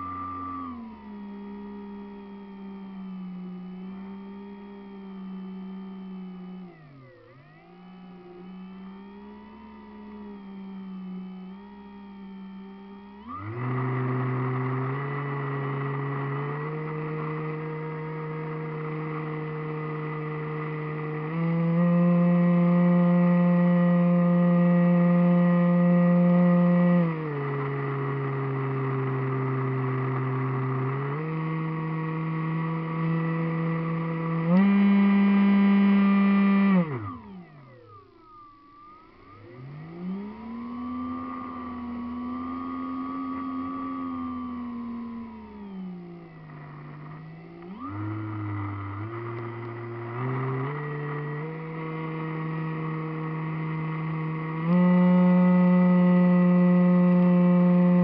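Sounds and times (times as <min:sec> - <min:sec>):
model airplane motor whining: 0:00.0 - 0:58.0.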